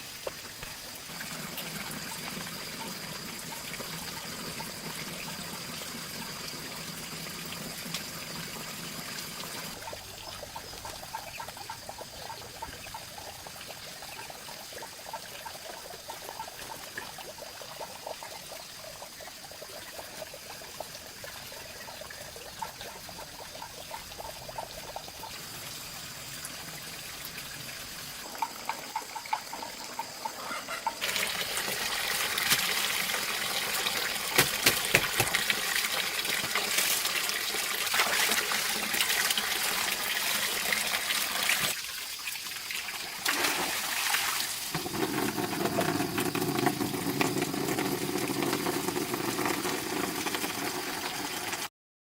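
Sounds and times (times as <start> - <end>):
water dripping: 0.0 - 51.7
water pouring and splashing: 0.0 - 51.7.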